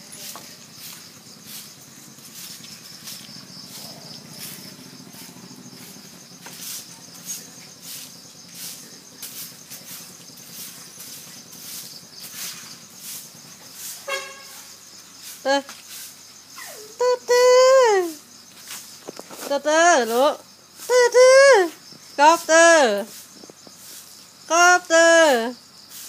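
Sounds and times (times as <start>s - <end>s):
high-pitched insect chirping: 0.0s - 26.0s.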